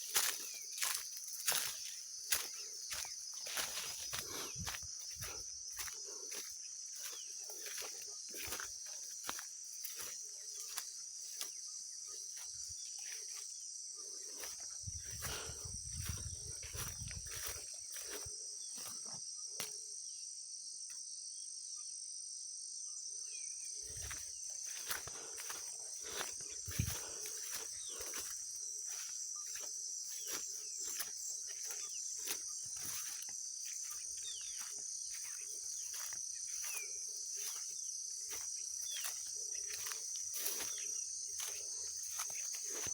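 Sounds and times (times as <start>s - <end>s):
footsteps crunching dry leaves: 0.0s - 19.1s, 23.8s - 42.9s
insect chorus: 0.0s - 42.9s.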